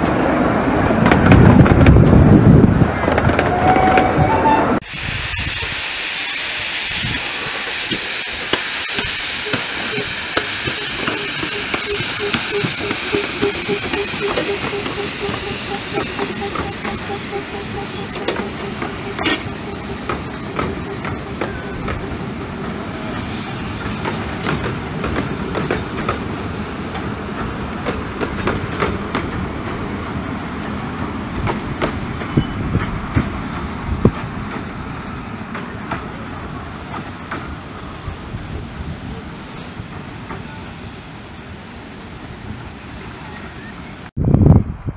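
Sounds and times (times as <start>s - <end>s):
train carriages rolling past: 0.0s - 44.1s
steam locomotive hissing: 3.5s - 44.0s.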